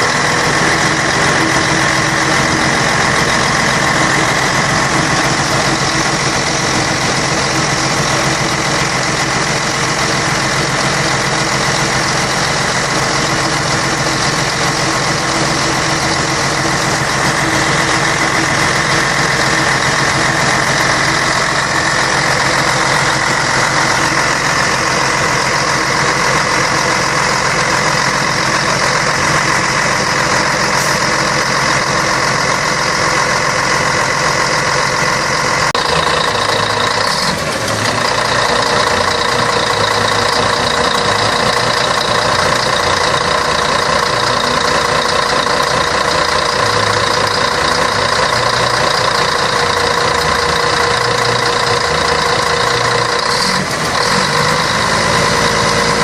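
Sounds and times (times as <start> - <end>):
steady whine: 0.0 - 53.5
bus diesel engine running: 0.0 - 56.0.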